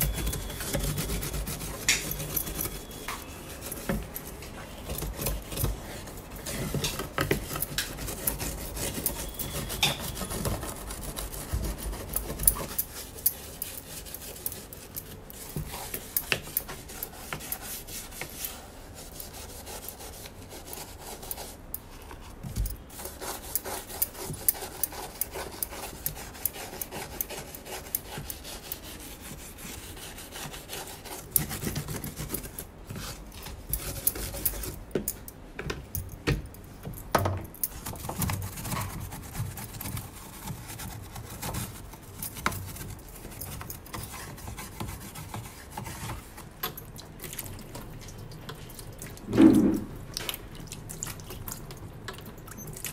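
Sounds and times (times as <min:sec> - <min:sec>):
toothbrush scrubbing plastic: 0:00.0 - 0:34.8, 0:37.7 - 0:52.9.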